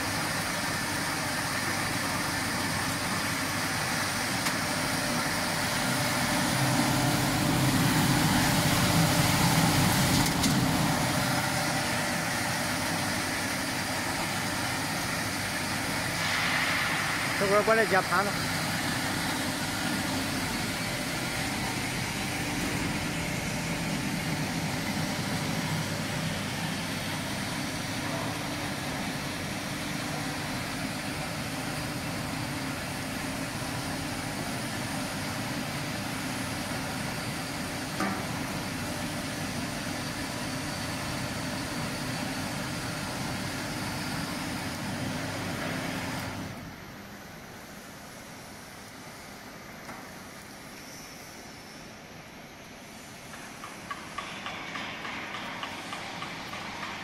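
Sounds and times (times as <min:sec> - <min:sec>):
washing machine hum and hiss: 0:00.0 - 0:57.0.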